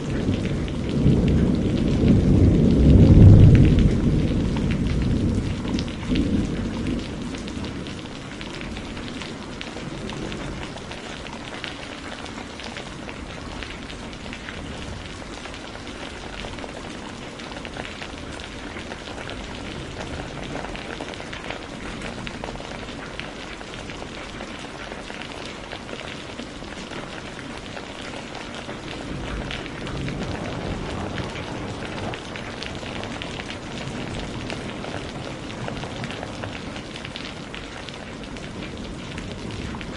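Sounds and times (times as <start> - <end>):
thunder rumbling: 0.0 - 24.8, 25.6 - 39.9
steady rain falling: 0.0 - 39.9.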